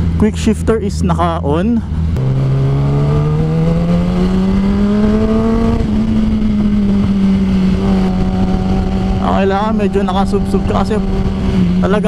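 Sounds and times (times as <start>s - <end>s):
motorcycle engine accelerating: 1.9s - 12.0s.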